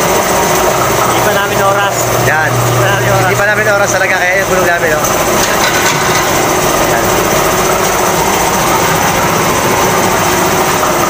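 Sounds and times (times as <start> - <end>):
machinery rattling: 0.0 - 11.0.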